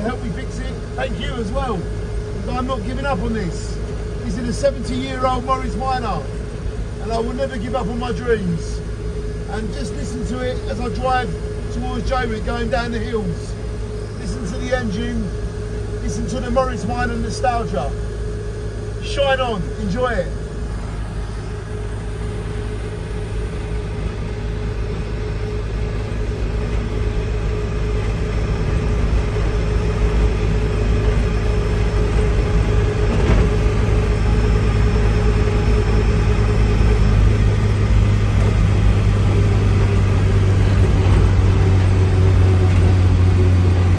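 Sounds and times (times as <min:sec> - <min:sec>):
car engine running: 0:00.0 - 0:43.9
road noise: 0:00.0 - 0:43.9.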